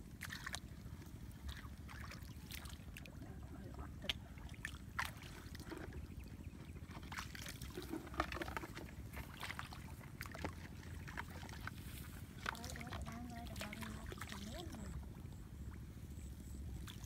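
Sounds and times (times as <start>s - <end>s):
splashing in muddy water: 0.0s - 15.9s, 16.7s - 17.0s.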